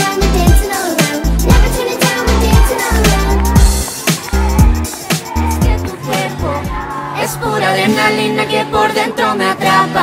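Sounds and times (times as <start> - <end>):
upbeat pop music: 0.0 - 10.0.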